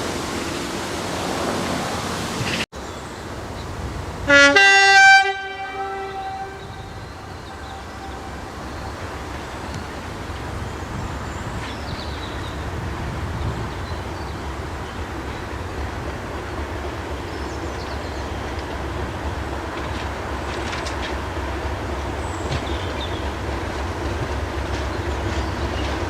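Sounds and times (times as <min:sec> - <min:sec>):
diesel locomotive engine: 0:00.0 - 0:26.0
rail noise: 0:00.0 - 0:26.0.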